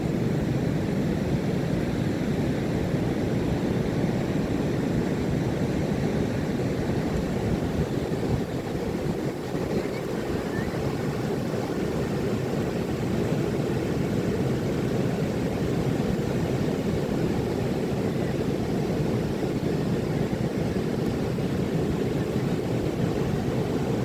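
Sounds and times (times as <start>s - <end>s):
surf waves breaking: 0.3s - 24.0s.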